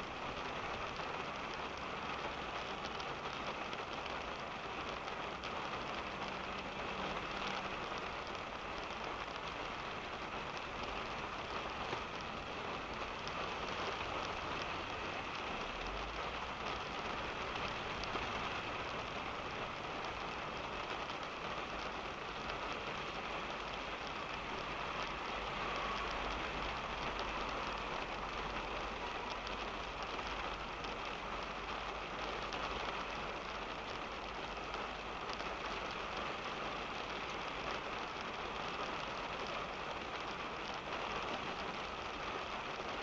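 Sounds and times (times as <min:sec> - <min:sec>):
rain pattering on car roof: 0:00.0 - 0:43.0.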